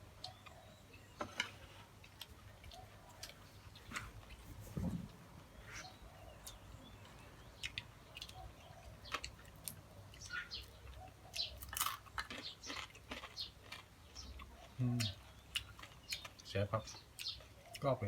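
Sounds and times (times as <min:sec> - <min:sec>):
close-up chewing: 0:01.5 - 0:04.5, 0:05.9 - 0:18.0.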